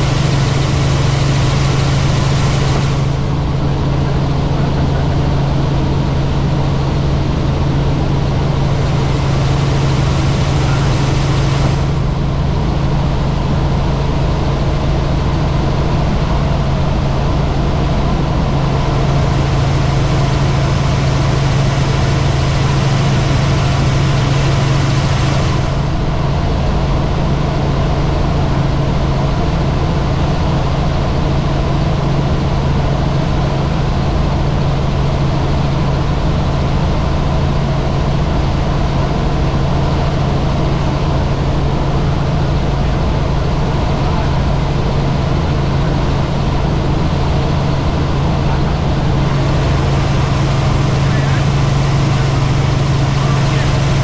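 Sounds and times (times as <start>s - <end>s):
helicopter engine and rotors: 0.0s - 54.0s.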